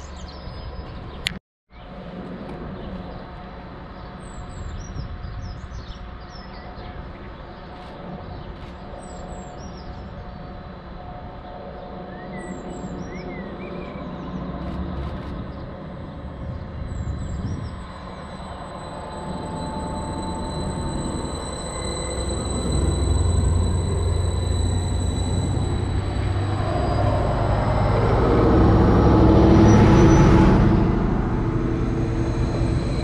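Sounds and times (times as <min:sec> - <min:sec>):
diesel engine low rumble: 0:00.0 - 0:33.0
high steady whine: 0:01.8 - 0:33.0.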